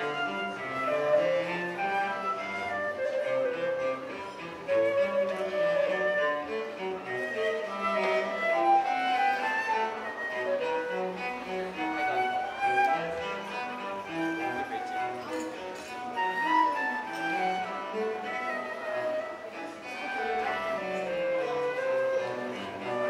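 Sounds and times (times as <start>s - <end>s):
bowed strings: 0.0s - 23.0s
flute playing melody: 0.0s - 23.0s.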